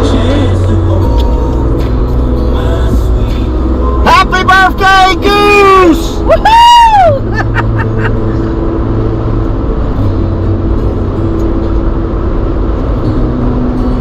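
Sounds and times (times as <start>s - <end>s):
car engine drone: 0.0s - 14.0s
road and wind noise: 0.0s - 14.0s.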